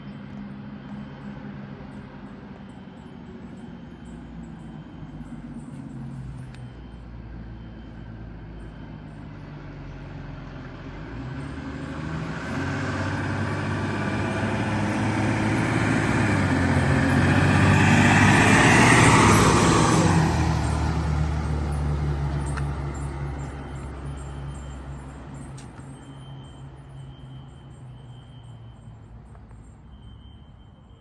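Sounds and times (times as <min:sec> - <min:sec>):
fire engine running: 0:00.1 - 0:31.0.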